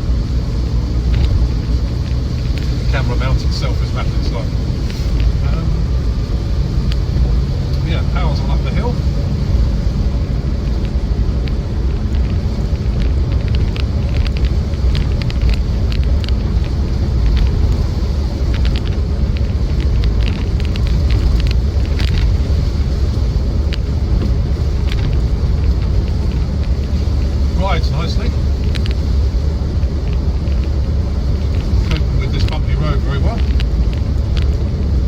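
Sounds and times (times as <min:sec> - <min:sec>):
body rattles and knocks: 0:00.0 - 0:35.0
diesel engine and road drone: 0:00.0 - 0:35.0.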